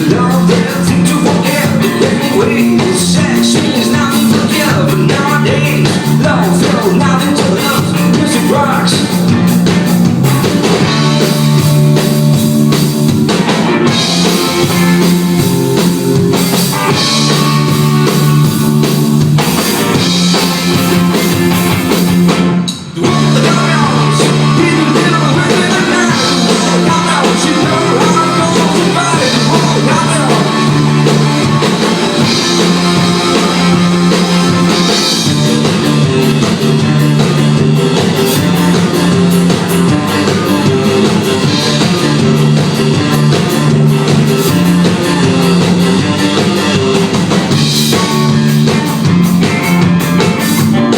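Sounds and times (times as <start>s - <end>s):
indie rock band playing live: 0.0s - 50.9s.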